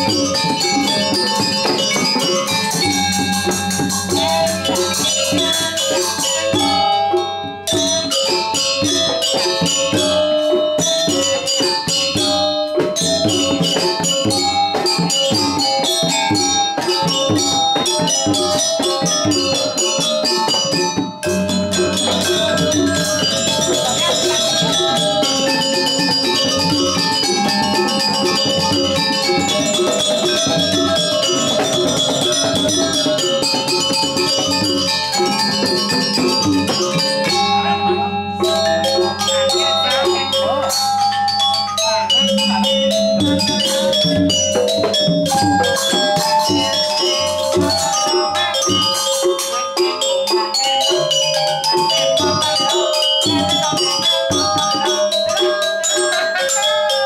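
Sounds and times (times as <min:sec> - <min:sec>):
hand drums: 0:00.0 - 0:57.0
metallophones struck with mallets: 0:00.0 - 0:57.0.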